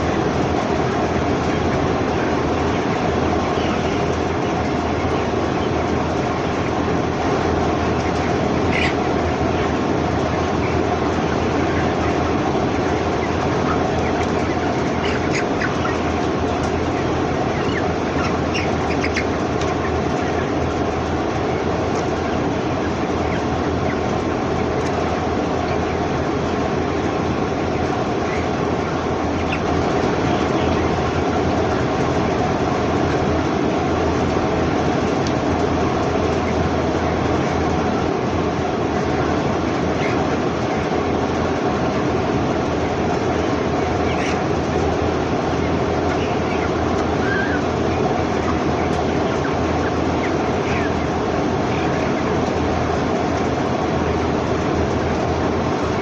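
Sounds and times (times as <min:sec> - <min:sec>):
chickens cheeping: 0:00.0 - 0:56.0.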